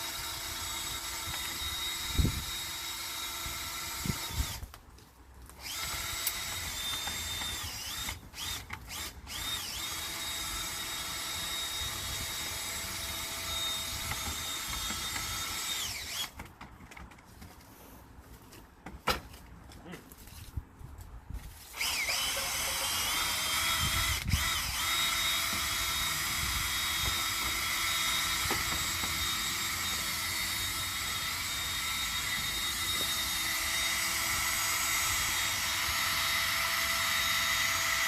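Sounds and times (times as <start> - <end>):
power tool motor whining: 0.0 - 4.7, 5.6 - 16.4, 21.6 - 38.0.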